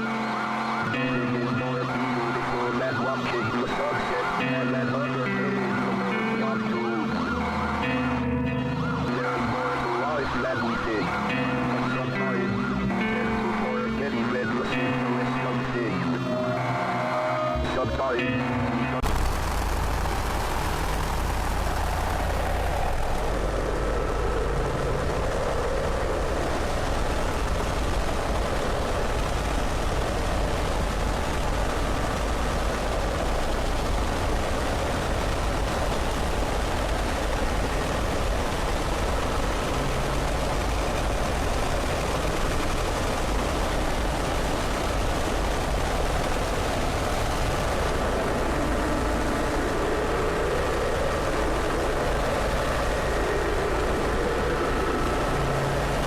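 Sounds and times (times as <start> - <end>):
heavy steady noise: 0.0 - 56.0
warning siren: 0.0 - 56.0.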